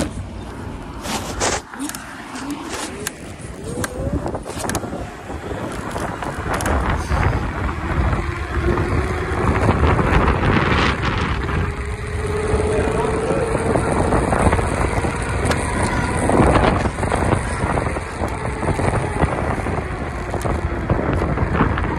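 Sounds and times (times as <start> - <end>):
scooter accelerating: 0.0 - 21.9
wind on microphone: 0.0 - 21.9
faint rising whine: 2.1 - 21.9.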